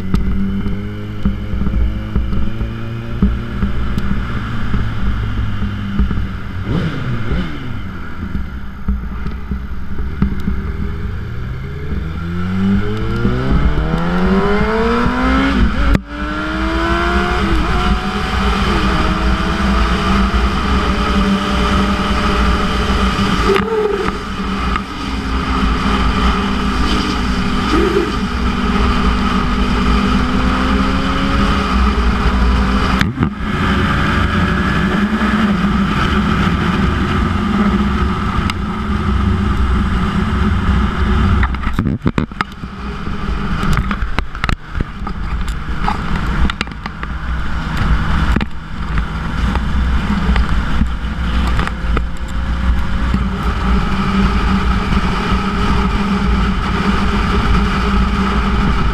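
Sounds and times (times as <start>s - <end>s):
motorcycle engine at road speed: 0.0s - 58.9s.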